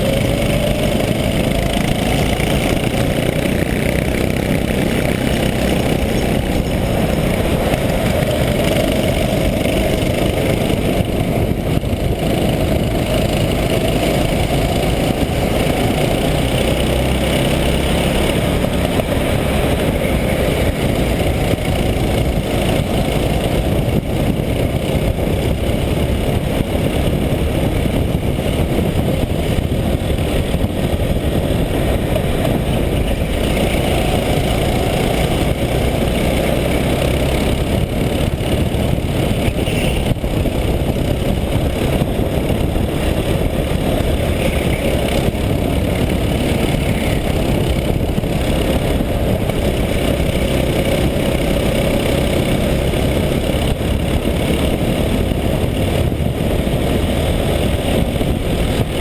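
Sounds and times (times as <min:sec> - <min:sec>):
go-kart engine racing: 0:00.0 - 0:59.0
road noise: 0:00.0 - 0:59.0.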